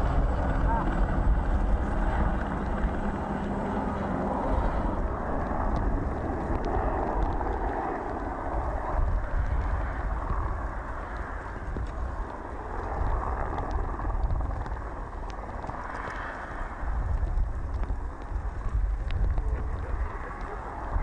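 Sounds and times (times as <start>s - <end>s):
lava crust crackling: 0.0s - 21.0s
wind buffeting microphone: 0.0s - 21.0s.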